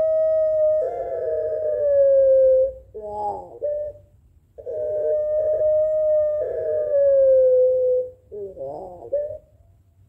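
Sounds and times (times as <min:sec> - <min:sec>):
dove cooing: 0:00.0 - 0:09.6.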